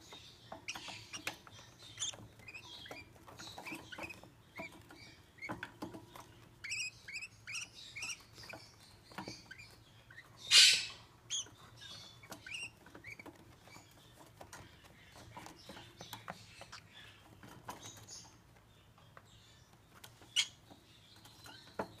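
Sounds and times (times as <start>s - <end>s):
birds chirping in high cheeps: 0.0s - 21.8s.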